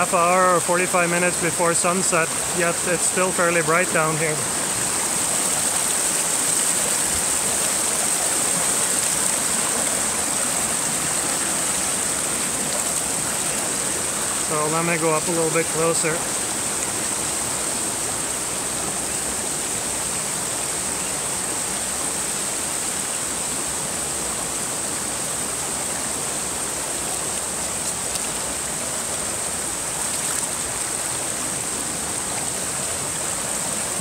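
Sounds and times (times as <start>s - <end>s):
stream rushing over cascades: 0.0s - 34.0s.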